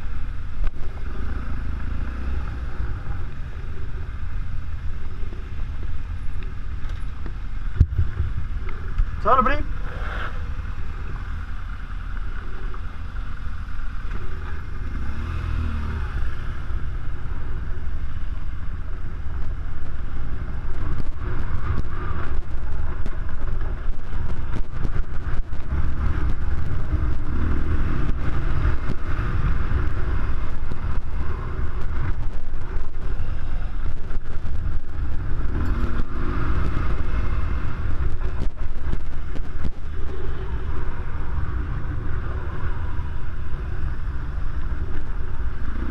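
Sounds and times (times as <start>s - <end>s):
motorcycle engine revving: 0.0s - 45.9s
wind noise on camera: 0.0s - 45.9s.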